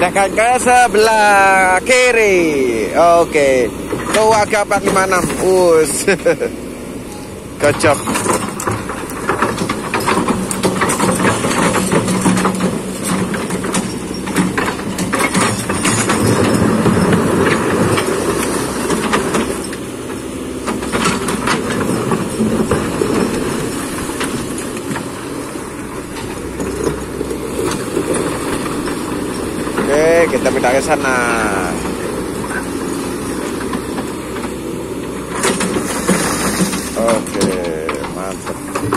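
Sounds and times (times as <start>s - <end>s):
excavator diesel engine under load: 0.0s - 38.9s.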